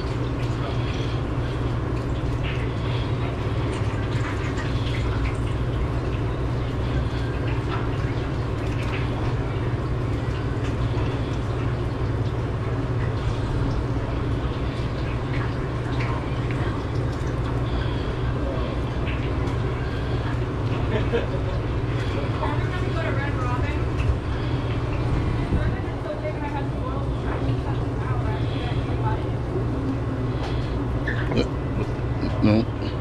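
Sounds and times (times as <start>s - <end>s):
low mechanical drone: 0.0s - 33.0s.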